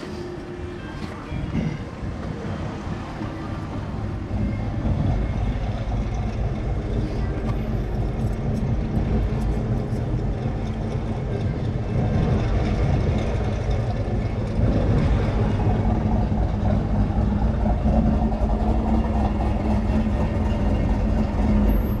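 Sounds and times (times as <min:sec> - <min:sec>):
car engine running: 0:04.2 - 0:22.0.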